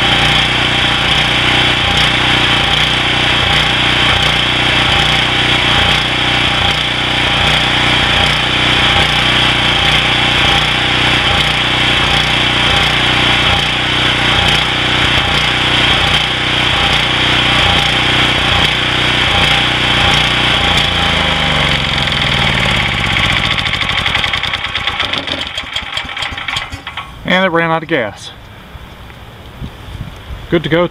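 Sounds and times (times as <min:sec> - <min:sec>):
generator engine running: 0:00.0 - 0:29.3.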